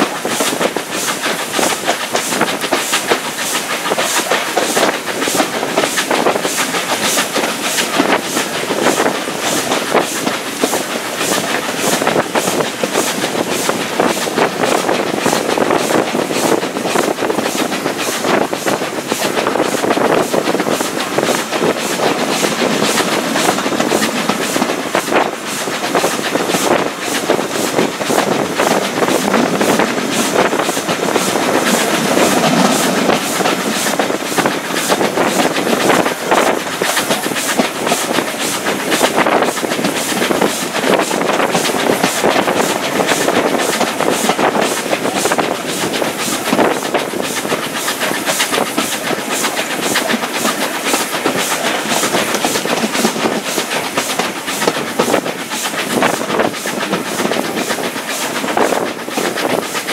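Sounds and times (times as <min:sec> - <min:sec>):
train running noise and wind: 0:00.0 - 0:59.9
train wheels clattering on rails: 0:00.0 - 0:59.9.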